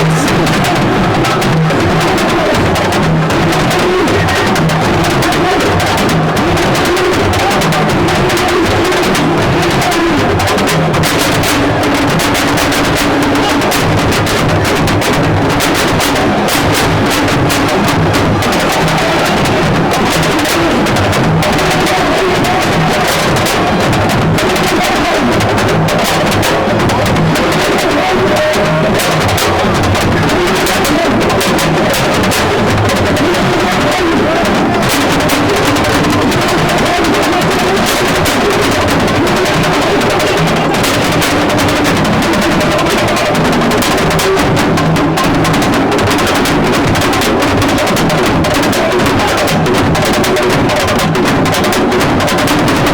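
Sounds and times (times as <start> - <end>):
fast dense drumming: 0.0 - 52.9.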